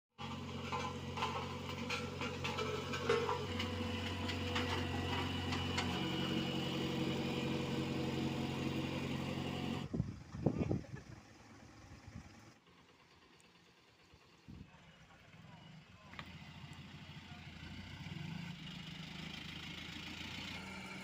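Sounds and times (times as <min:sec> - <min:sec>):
diesel engines running: 0:00.2 - 0:21.0.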